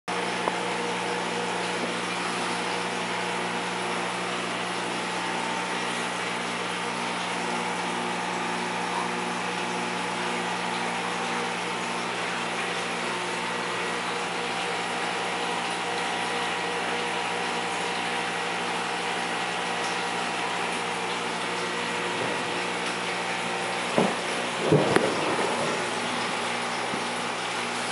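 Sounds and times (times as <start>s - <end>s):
aquarium filter pump humming: 0.1s - 27.9s.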